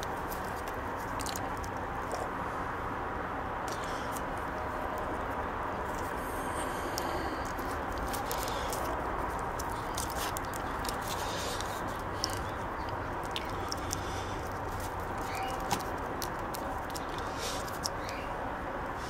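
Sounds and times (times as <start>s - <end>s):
electrical tape crackling: 0.0s - 2.3s, 3.6s - 18.2s.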